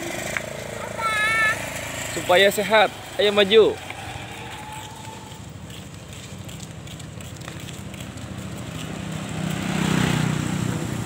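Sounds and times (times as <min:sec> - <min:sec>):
small motorcycle engine running: 0:00.0 - 0:06.7, 0:07.3 - 0:11.0.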